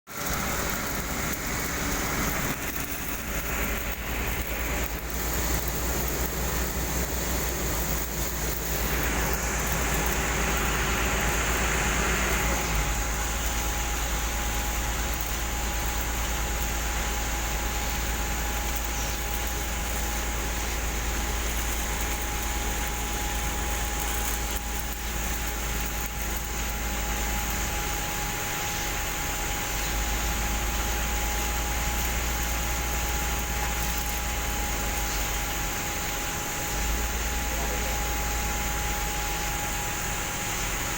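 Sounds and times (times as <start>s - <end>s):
hiss of sprayed concrete: 0.1s - 40.9s
machine rumble: 0.1s - 40.9s
steady whine: 0.1s - 40.9s.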